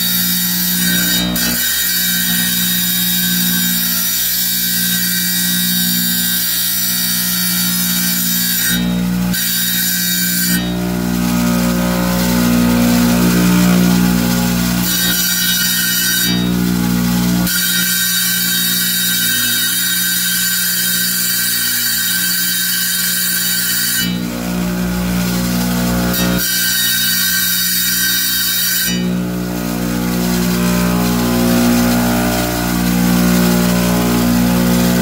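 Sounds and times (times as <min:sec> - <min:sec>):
wet tile saw grinding stone: 0:00.0 - 0:35.0.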